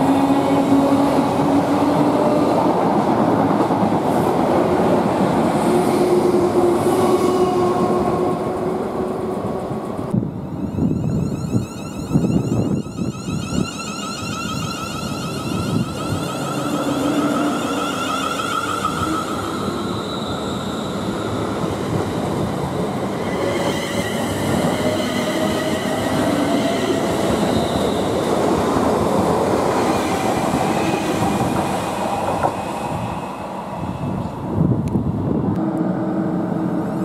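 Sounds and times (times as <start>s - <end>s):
train wheels rumbling on track: 0.0s - 37.0s.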